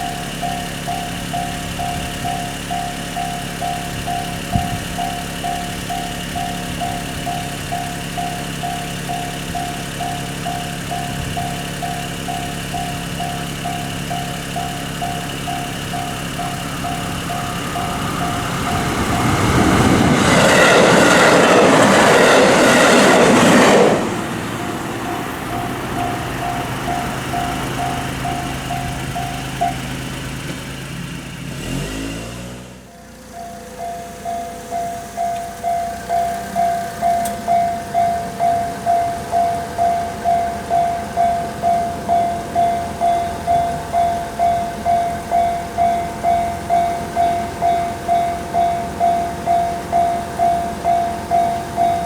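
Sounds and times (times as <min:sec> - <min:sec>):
railroad crossing bell ringing: 0:00.0 - 0:31.4, 0:32.8 - 0:52.0
train passing: 0:00.0 - 0:52.0.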